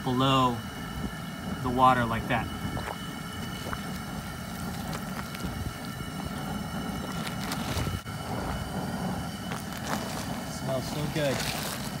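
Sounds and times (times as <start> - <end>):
burner flame rumbling: 0.0 - 12.0
water bubbling at a boil: 0.0 - 12.0.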